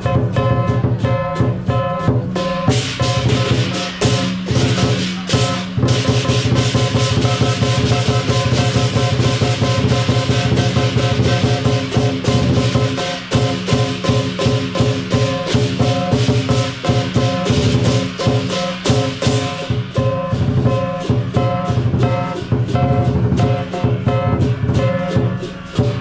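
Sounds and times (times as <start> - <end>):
fast steady drumbeat: 0.0 - 26.0.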